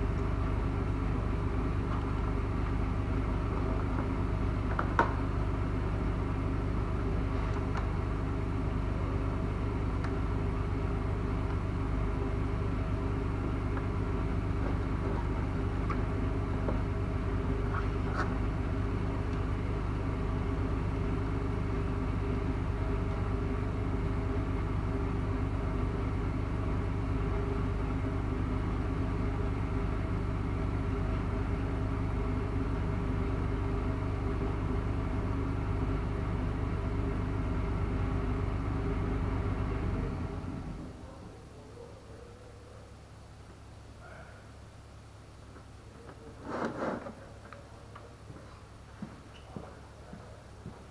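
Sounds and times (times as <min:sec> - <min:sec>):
car engine idling: 0:00.0 - 0:46.4.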